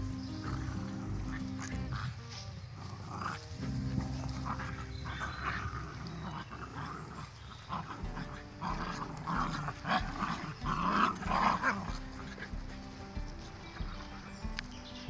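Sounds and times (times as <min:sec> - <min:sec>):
small dogs growling: 0:00.0 - 0:15.0.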